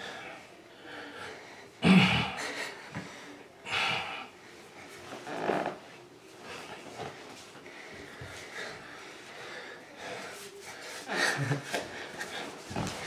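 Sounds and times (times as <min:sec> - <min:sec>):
men breathing heavily: 0:00.0 - 0:05.1, 0:06.4 - 0:13.0.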